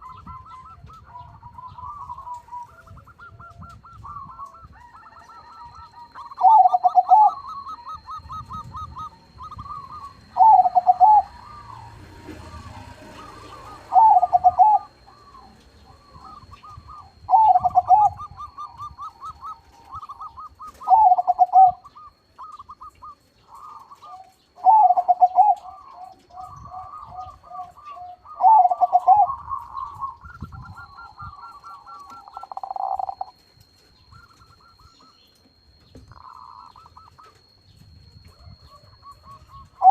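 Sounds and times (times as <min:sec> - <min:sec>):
dove cooing: 0:00.0 - 0:39.9
faint high-pitched whine: 0:00.0 - 0:39.9.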